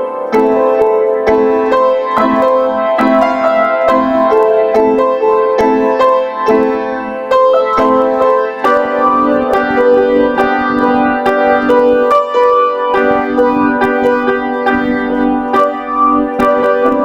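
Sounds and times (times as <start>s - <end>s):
calm piano melody: 0.0s - 17.0s.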